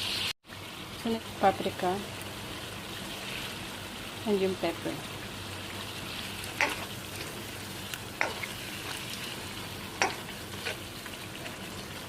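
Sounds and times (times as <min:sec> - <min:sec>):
liver sizzling in a frying pan: 0:00.0 - 0:12.0.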